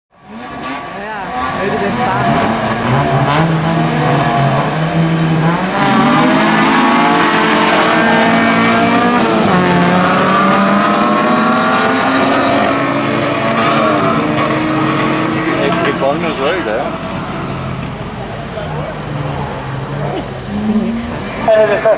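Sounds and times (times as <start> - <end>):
race car engines revving: 0.2 - 21.9.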